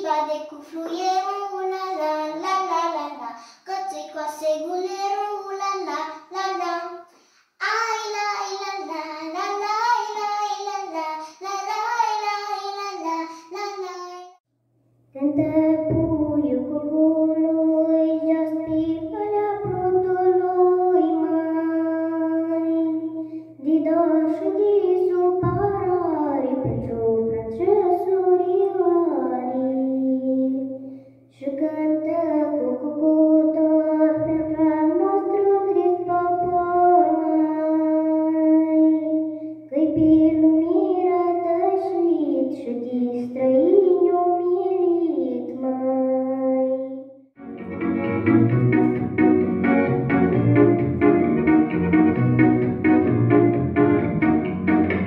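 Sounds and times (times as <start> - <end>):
girl singing into microphone: 0.0 - 14.2, 15.2 - 47.0.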